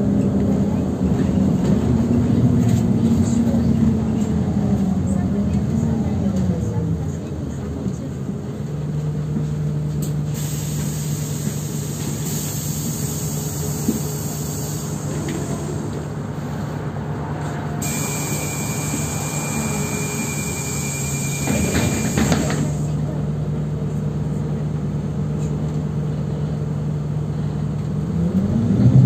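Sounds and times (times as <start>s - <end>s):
bus drive hum and road noise: 0.0s - 29.0s.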